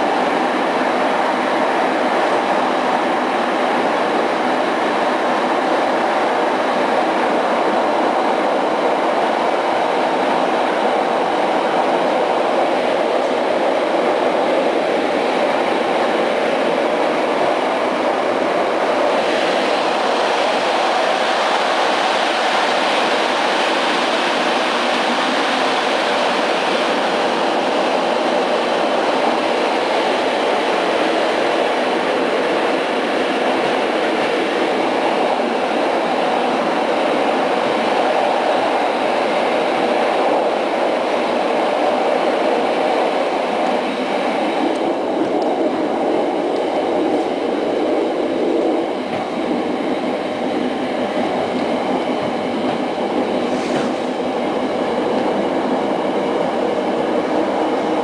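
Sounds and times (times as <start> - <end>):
train wheels rolling on track: 0.0 - 58.0.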